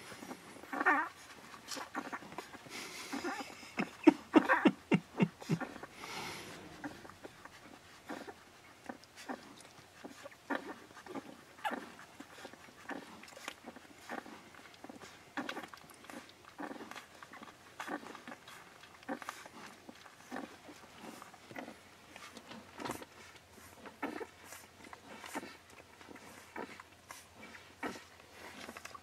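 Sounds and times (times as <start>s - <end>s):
puppies squeaking and whimpering: 0.0s - 29.0s.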